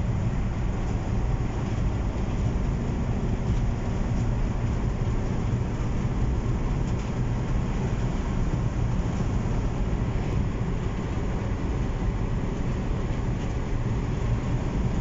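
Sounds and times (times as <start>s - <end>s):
engine and road noise in car: 0.0s - 15.0s.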